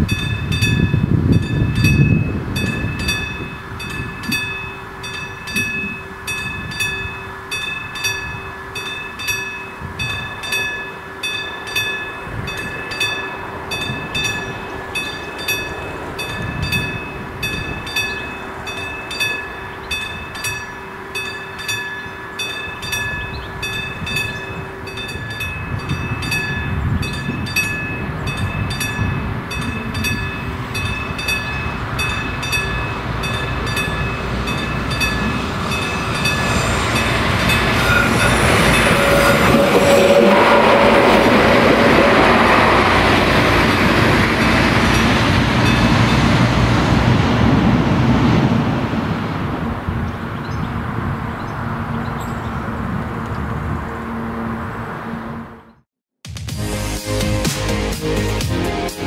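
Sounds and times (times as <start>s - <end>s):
level crossing warning bell: 0.0s - 46.6s, 50.4s - 52.9s.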